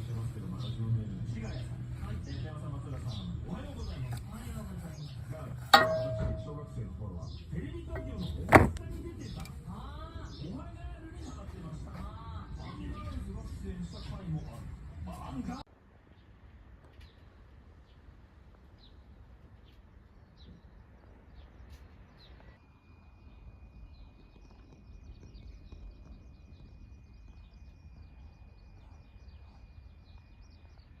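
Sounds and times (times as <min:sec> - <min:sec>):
small birds chirping: 0:00.0 - 0:22.6, 0:23.2 - 0:31.0.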